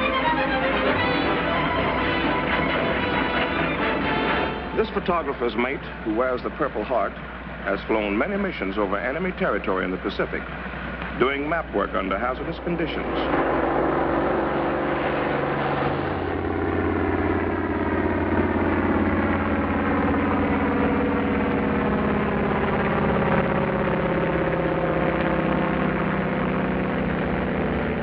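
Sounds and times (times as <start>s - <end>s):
propeller aircraft engine droning: 0.0s - 28.0s.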